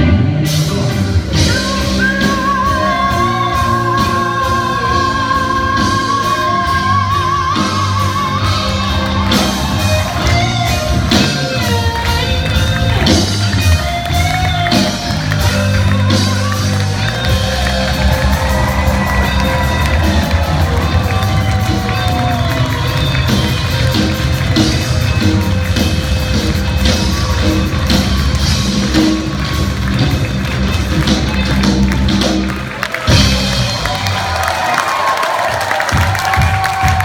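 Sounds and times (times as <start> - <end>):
live band music: 0.0 - 37.0.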